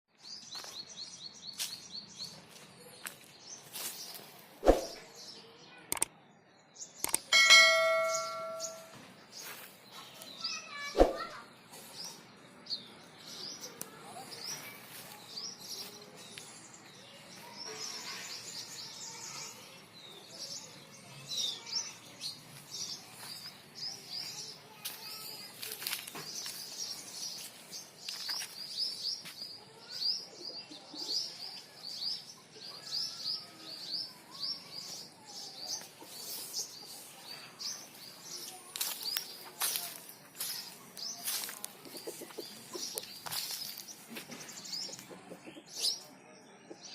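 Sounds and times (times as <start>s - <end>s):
small birds chirping: 0.1s - 46.9s.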